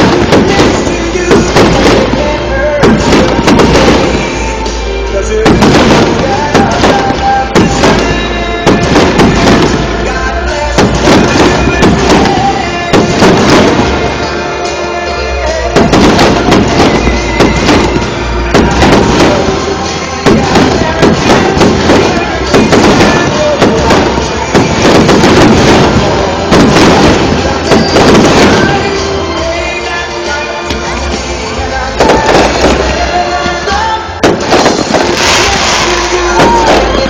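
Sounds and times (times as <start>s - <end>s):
fireworks exploding: 0.0s - 37.0s
music playing: 0.0s - 37.0s.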